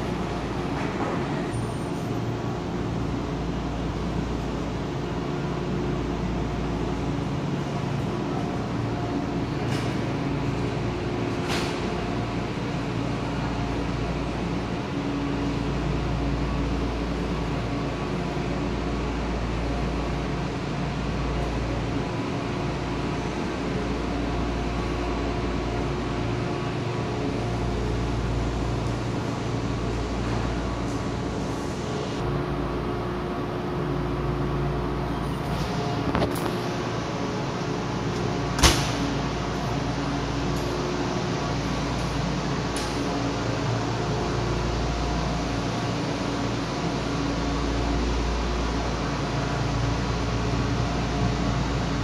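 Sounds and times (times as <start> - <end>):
stationary electric trains humming: 0.0 - 52.0.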